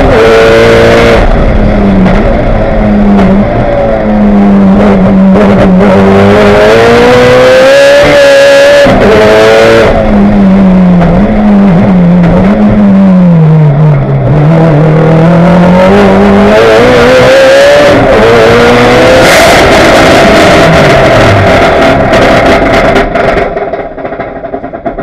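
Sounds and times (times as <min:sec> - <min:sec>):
turbocharged car engine revving: 0:00.0 - 0:25.0.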